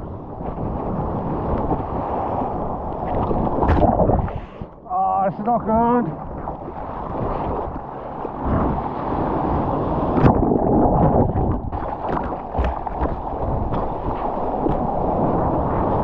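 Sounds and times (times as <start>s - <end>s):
wave breaking: 0.0s - 16.0s
seawater sloshing and splashing: 0.4s - 4.8s, 5.8s - 16.0s.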